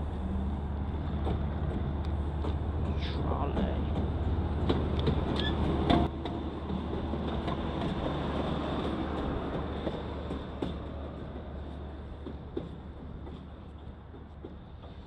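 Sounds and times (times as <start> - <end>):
trolley rumbling past: 0.0 - 15.0.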